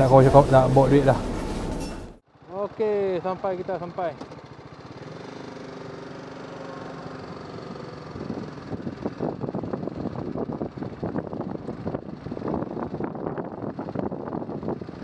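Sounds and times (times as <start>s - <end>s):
motorcycle engine at low speed: 0.0s - 15.0s.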